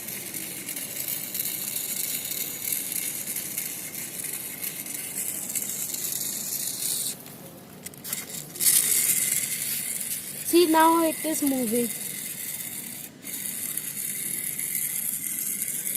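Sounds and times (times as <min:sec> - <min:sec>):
small motor rattling whir: 0:00.0 - 0:15.9.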